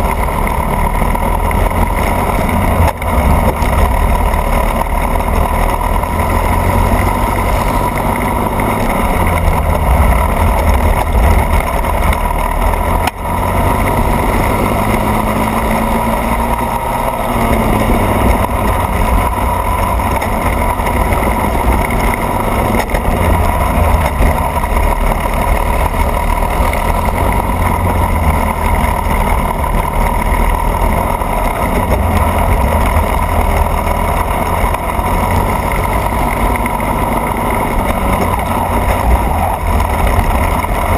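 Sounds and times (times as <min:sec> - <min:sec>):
go-kart engine running hard: 0:00.0 - 0:40.9.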